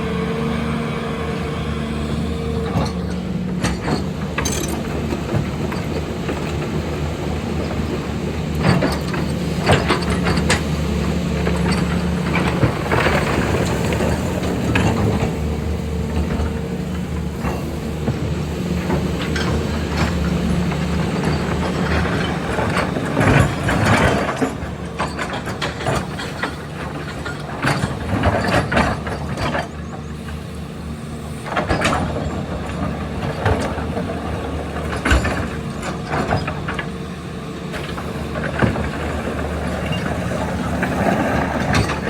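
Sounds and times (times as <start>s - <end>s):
diesel engine hum: 0.0s - 42.0s
excavator bucket clanking and scraping: 1.6s - 30.4s, 31.5s - 37.0s, 37.7s - 42.0s.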